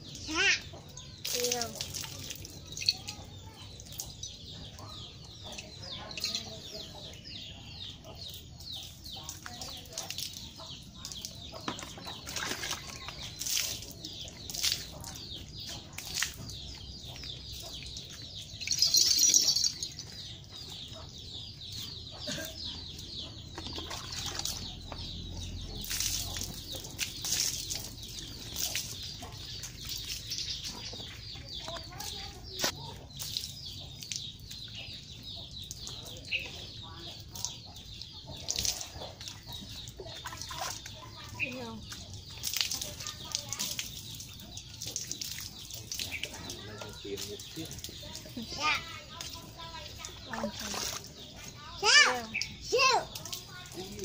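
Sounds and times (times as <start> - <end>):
birds chirping: 0.0 - 54.0
water pouring and splashing: 0.0 - 54.0.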